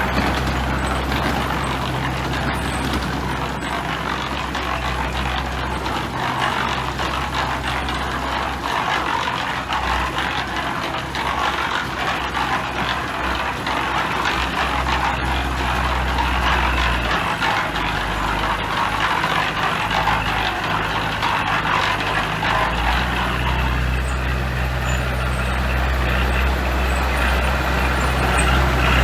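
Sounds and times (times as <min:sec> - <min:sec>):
diesel engine drone: 0:00.0 - 0:29.0
metallic rattling and clanking: 0:00.0 - 0:29.0.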